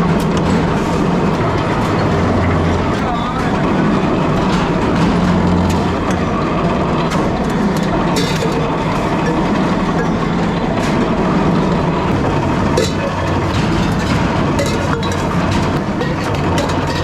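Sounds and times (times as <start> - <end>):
metalworking machinery humming: 0.0 - 17.0
rattling clatter: 0.0 - 17.0
sharp metallic knocks: 0.2 - 17.0.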